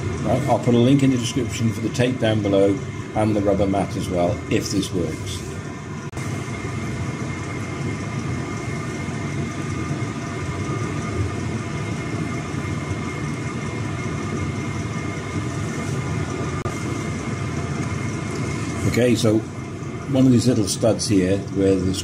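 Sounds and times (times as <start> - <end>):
mechanical hum with airy rush: 0.0 - 22.0.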